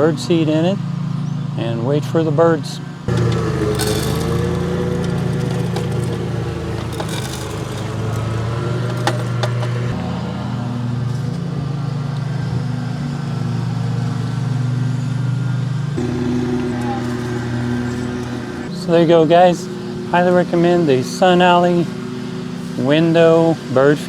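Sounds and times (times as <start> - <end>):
motor humming: 2.8 - 22.9.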